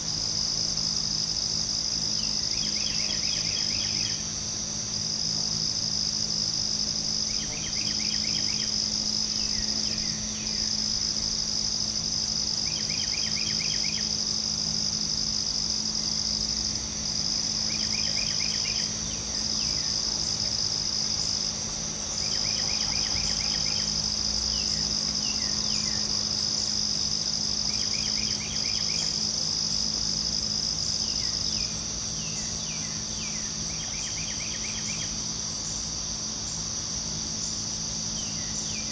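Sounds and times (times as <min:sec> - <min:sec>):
crickets trilling: 0:00.0 - 0:38.9
low pulsed insect call: 0:00.0 - 0:38.9.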